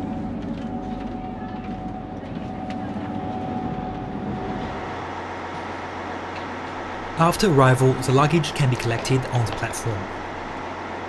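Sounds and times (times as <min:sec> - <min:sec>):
diesel railcar interior hum: 0:00.0 - 0:11.0
faint steady whine: 0:00.0 - 0:11.0.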